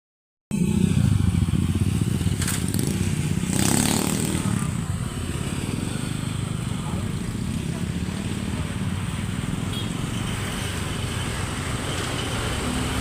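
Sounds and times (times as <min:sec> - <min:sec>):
vehicle engine rumbling: 0:00.5 - 0:13.0.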